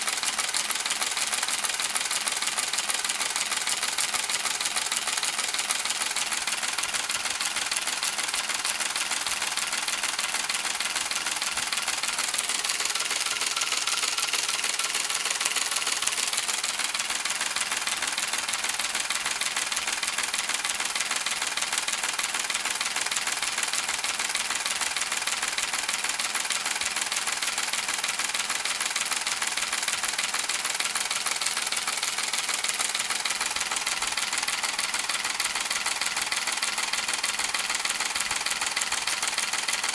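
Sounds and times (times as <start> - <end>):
rapid mechanical clatter and rattle: 0.0 - 39.9.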